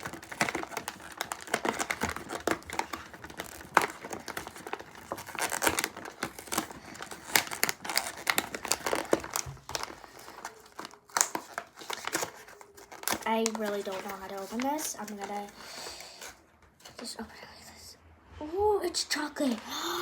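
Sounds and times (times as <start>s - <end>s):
plastic snack wrapper crinkling: 0.0s - 16.4s.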